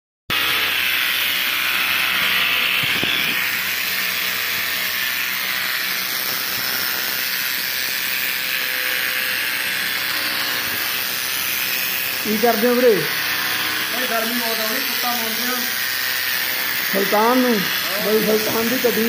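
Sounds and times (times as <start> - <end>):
electric pet hair clipper: 0.3 - 19.0.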